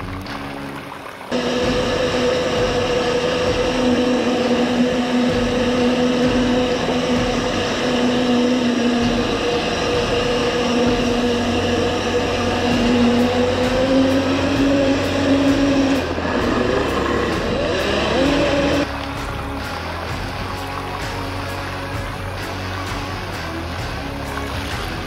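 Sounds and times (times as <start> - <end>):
electric motor and gears whining: 1.3 - 25.0.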